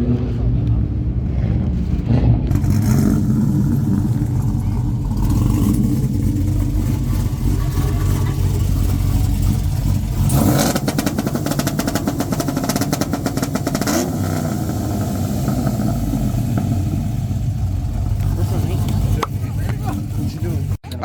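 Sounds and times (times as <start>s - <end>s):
car engine idling: 0.3s - 21.0s
exhaust pops and crackles: 1.5s - 21.0s.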